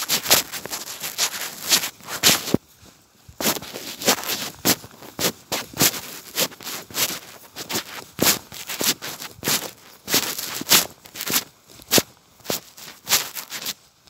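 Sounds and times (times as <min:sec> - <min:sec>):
clothing brushing against phone: 0:00.0 - 0:13.9
footsteps on wet grass: 0:00.0 - 0:14.0.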